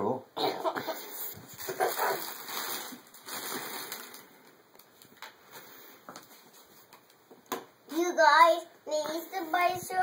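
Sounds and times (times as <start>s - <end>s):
faint rustling and handling noise: 1.0s - 10.0s.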